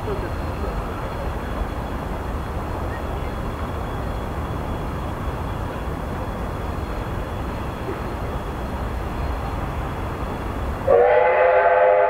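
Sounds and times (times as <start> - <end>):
distant steam locomotive rumble: 0.0 - 12.0.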